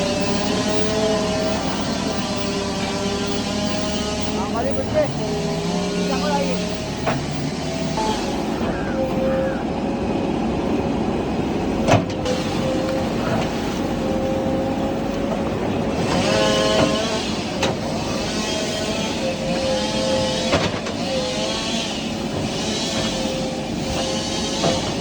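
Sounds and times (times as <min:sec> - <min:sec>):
diesel engine under load: 0:00.0 - 0:25.0
hydraulic whine: 0:00.0 - 0:25.0.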